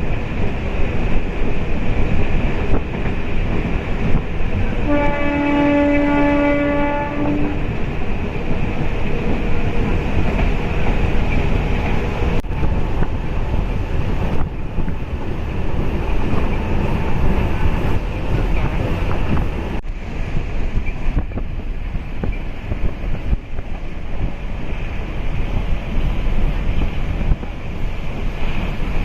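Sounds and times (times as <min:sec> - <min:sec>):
train rushing at speed: 0:00.0 - 0:29.0
wind buffeting microphone: 0:00.0 - 0:29.0.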